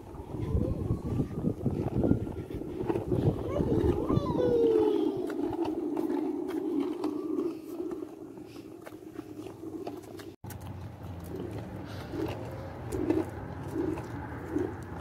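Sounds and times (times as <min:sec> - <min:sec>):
scooter wheels rolling on asphalt: 0:00.0 - 0:15.0.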